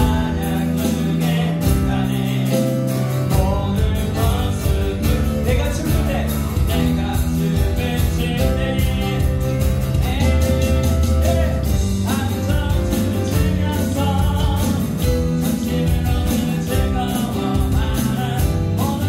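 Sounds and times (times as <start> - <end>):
person singing: 0.0 - 19.0
worship band playing: 0.0 - 19.0.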